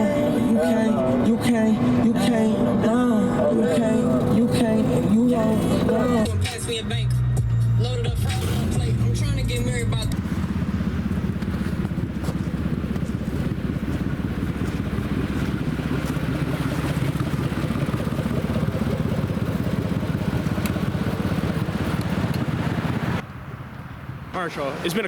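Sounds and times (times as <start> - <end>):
truck engine running hard: 0.0 - 23.2.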